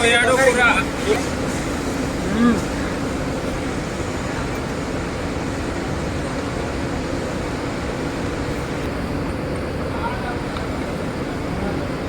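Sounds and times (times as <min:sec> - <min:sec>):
constant low hum: 0:00.0 - 0:12.0
industrial machinery noise: 0:00.0 - 0:12.0.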